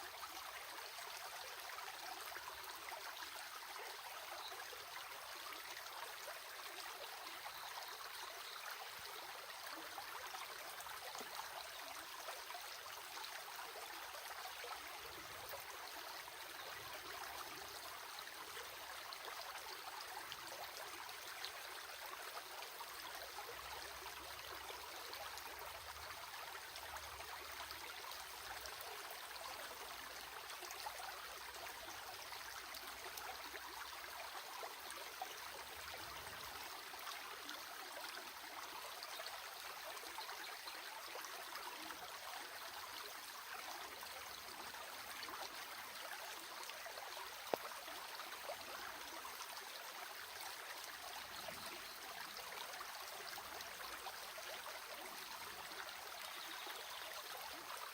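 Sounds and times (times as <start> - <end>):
stream of water running: 0.0 - 57.9.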